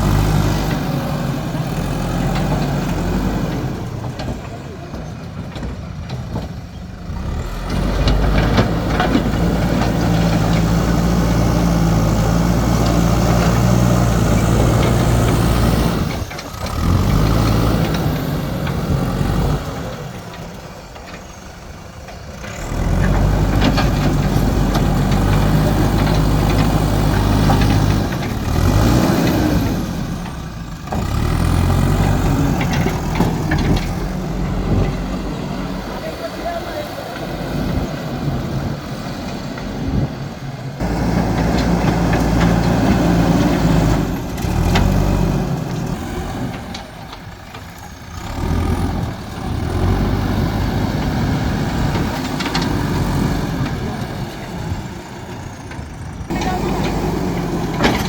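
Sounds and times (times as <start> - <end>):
heavy diesel engine revving: 0.0 - 58.0.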